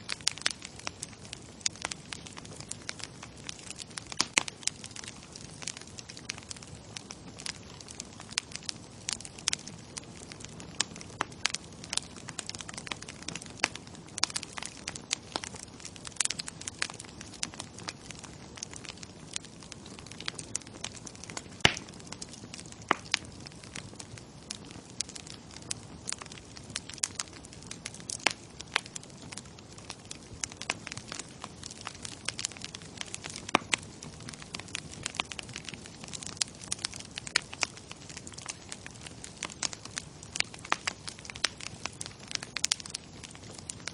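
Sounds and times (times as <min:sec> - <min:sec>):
bonfire crackling and popping: 0:00.0 - 0:43.9.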